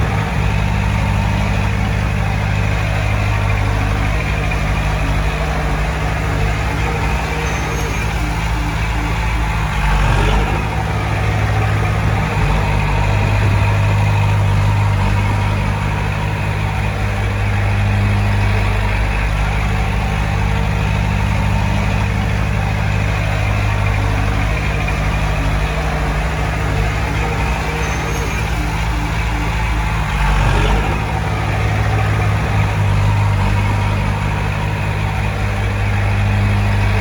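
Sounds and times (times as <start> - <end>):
heavy diesel engine droning: 0.0 - 37.0.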